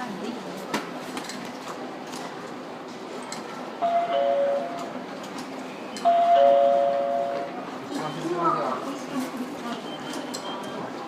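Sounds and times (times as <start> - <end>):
station concourse background noise: 0.0 - 11.0.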